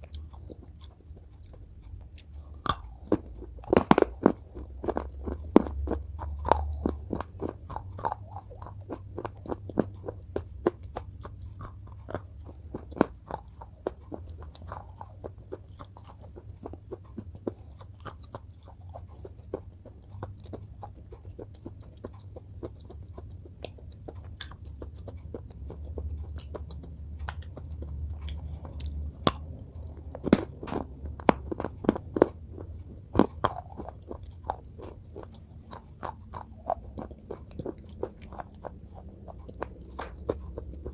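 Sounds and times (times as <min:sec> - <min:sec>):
crunchy chewing: 0:00.0 - 0:40.9
steady low hum: 0:00.0 - 0:40.9.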